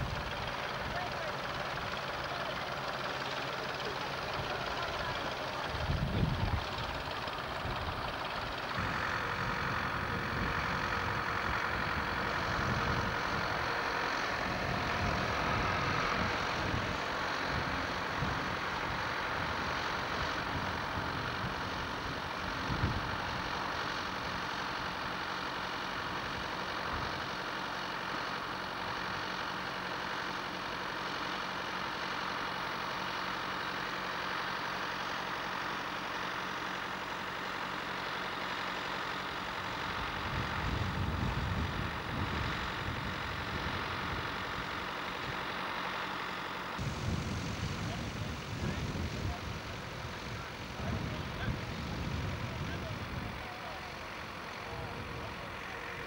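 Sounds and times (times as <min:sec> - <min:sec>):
tractor diesel engine rumbling: 0:00.0 - 0:56.0.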